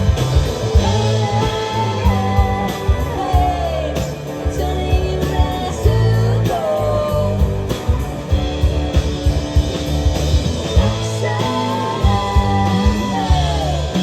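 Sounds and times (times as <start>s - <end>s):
held bass notes: 0.0s - 14.0s
sliding guitar melody: 0.0s - 14.0s.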